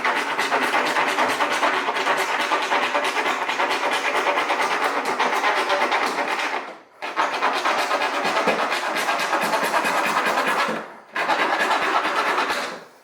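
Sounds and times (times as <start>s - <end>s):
hand saw sawing plastic: 0.0s - 13.0s.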